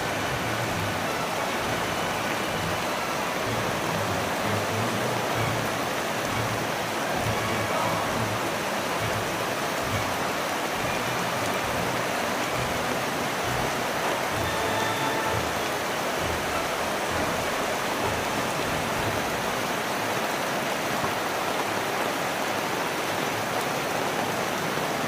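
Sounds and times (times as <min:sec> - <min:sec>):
floodwater rushing along street: 0:00.0 - 0:25.0
heavy rain pouring: 0:00.0 - 0:25.0.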